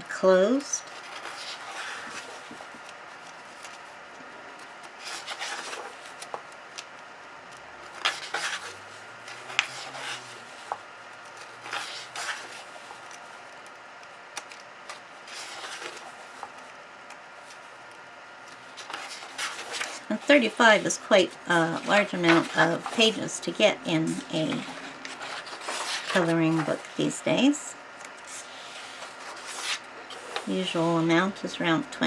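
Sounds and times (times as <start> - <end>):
book pages turning: 0.9 - 27.1, 28.0 - 31.1.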